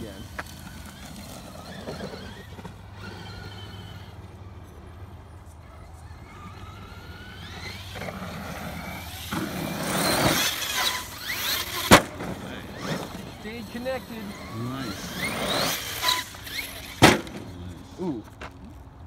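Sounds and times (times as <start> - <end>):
electric motor whining: 0.0 - 18.3
tyres churning loose dirt: 0.0 - 19.0.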